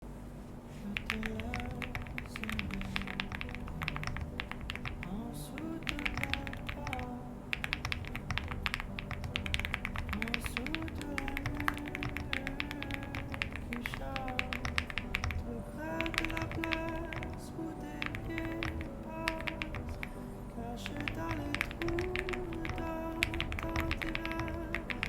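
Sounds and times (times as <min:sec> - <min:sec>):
background music: 0:00.6 - 0:25.0
mechanical keyboard typing: 0:00.9 - 0:17.4, 0:18.0 - 0:20.2, 0:20.8 - 0:25.0.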